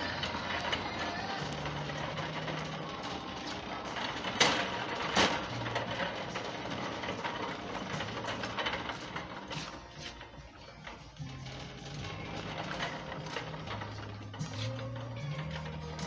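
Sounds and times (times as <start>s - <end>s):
shopping cart rolling and rattling: 0.0s - 16.0s.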